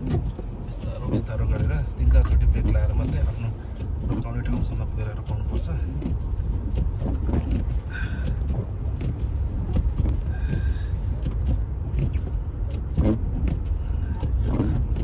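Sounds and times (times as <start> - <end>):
car driving on snow: 0.0 - 15.0.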